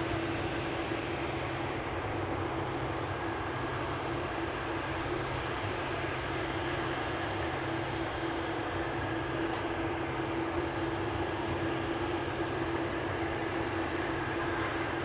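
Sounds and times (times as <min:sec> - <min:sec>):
jet engines rushing with hum: 0:00.0 - 0:15.0.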